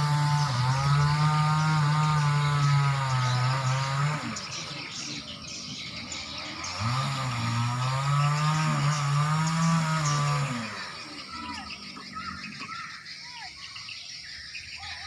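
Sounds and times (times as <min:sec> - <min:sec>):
vehicle engine running: 0:00.0 - 0:13.2.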